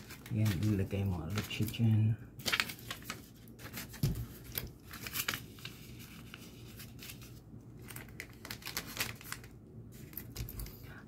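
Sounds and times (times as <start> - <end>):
plastic and paper rustling: 0.0 - 11.0.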